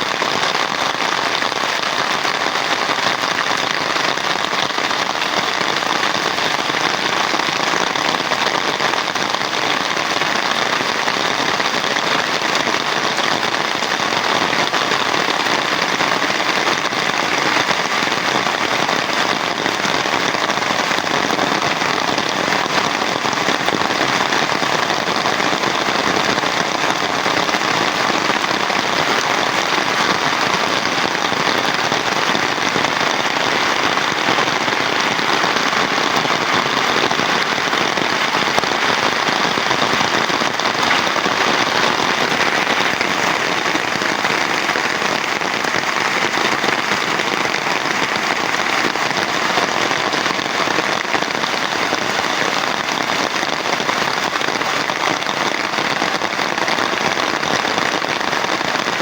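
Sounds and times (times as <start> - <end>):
heavy rain pattering: 0.0 - 59.0.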